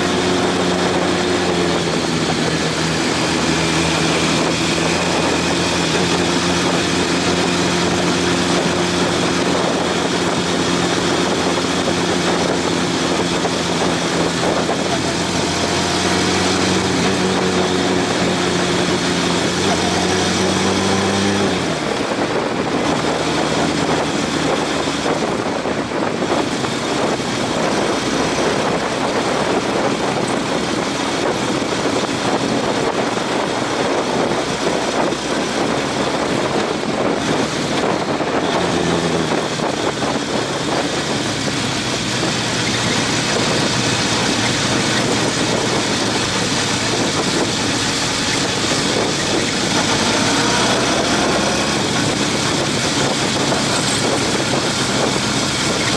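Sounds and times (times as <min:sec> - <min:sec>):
motorcycle engine running: 0:00.0 - 0:55.9
wind rush: 0:00.0 - 0:55.9.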